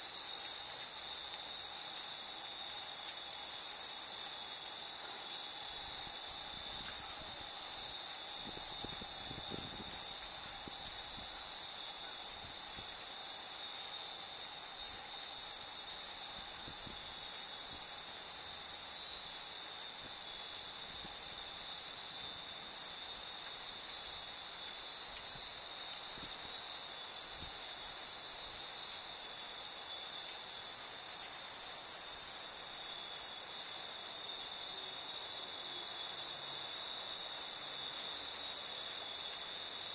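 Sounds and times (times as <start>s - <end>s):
insects shrilling: 0.0s - 39.9s.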